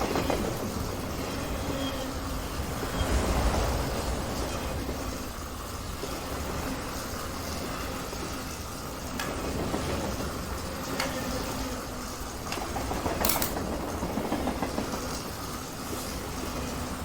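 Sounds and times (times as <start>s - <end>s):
toy train running on track: 0.0s - 17.0s.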